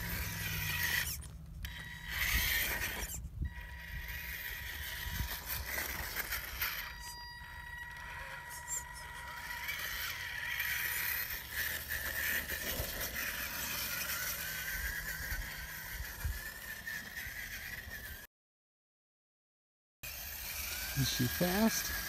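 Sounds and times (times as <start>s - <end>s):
small electric motor whining: 0.0s - 18.3s, 20.0s - 22.0s.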